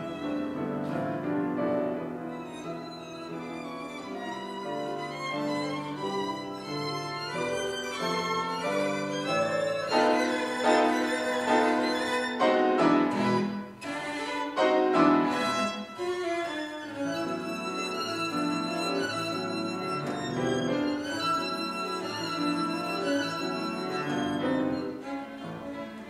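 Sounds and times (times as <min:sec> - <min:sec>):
cello: 0:00.0 - 0:26.0
piano: 0:00.0 - 0:26.0
violin: 0:00.0 - 0:26.0.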